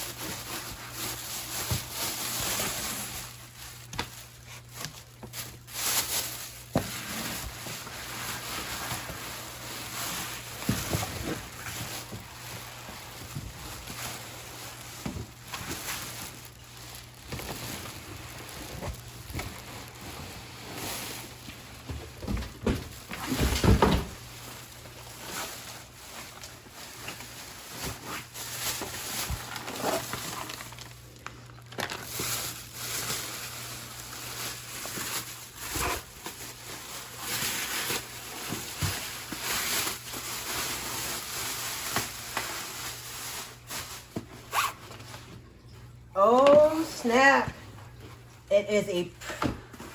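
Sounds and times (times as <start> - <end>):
packaging rustling and scraping: 0.0 - 45.4.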